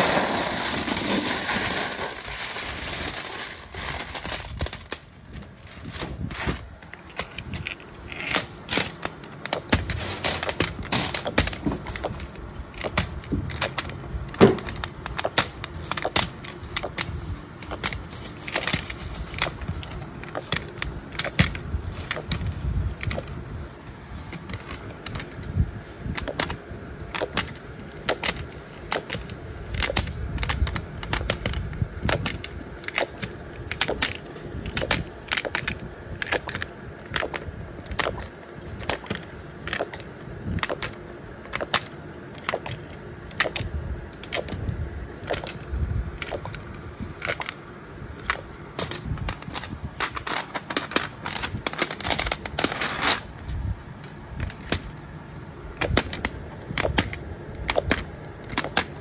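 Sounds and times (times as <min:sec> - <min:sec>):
low machinery rumble: 0:00.0 - 0:59.0.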